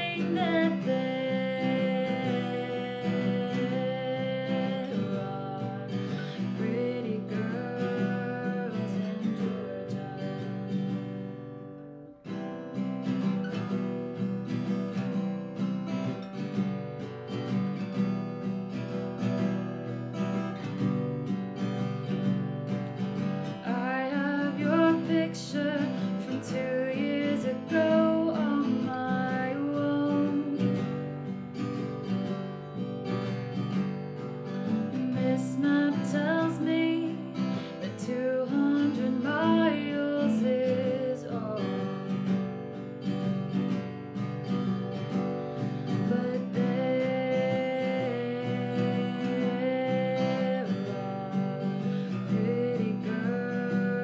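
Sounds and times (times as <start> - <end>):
strummed acoustic guitar chords: 0.0 - 54.0.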